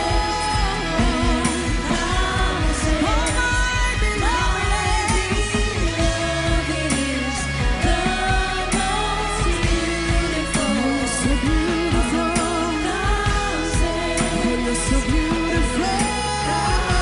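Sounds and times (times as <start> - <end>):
bass: 0.0 - 17.0
person singing: 0.0 - 17.0
steady drum beat: 0.0 - 17.0.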